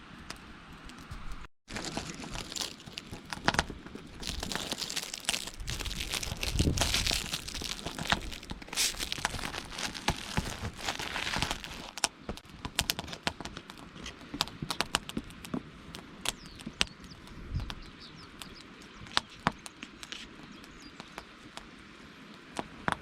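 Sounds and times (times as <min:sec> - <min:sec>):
campfire crackling and popping: 0:00.3 - 0:21.7.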